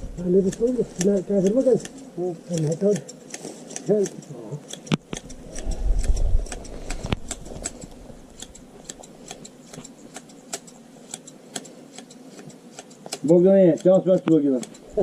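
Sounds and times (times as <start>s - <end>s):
sheep shears snipping fleece: 0.0s - 15.0s.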